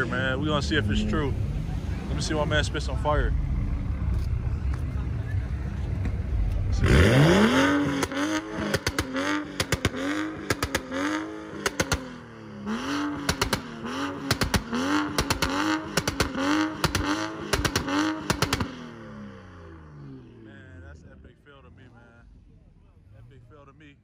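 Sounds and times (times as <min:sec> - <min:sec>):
car engine revving: 0:00.0 - 0:24.0
exhaust popping and crackling: 0:02.2 - 0:21.6.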